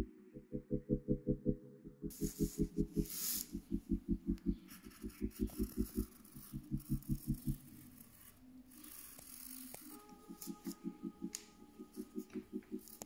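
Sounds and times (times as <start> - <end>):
pencil ticking on paper: 2.1 - 13.0.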